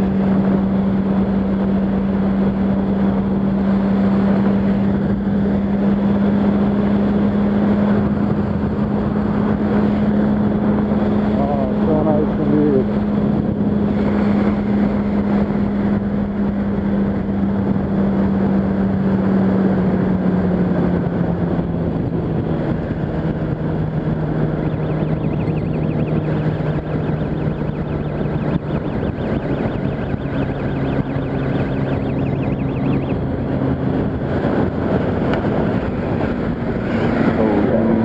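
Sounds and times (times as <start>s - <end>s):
higher engine tone: 0.0s - 38.0s
motorcycle engine running: 0.0s - 38.0s
wind noise: 0.0s - 38.0s.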